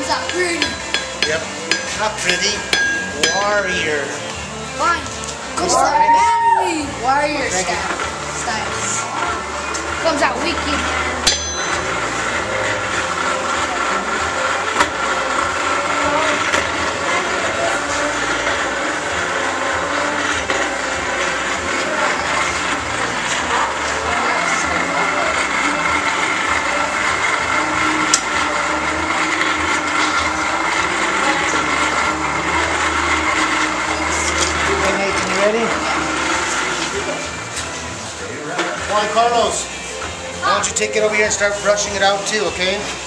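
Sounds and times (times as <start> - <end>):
forge running steadily: 0.0 - 43.0.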